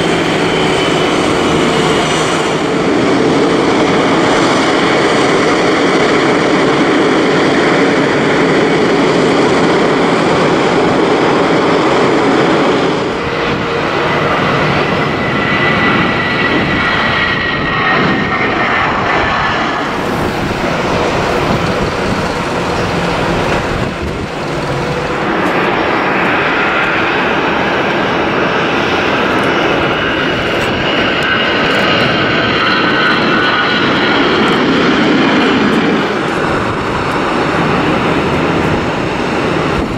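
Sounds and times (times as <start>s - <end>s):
jet engine taxiing: 0.0s - 39.9s
jet engines whining at takeoff: 0.0s - 39.9s.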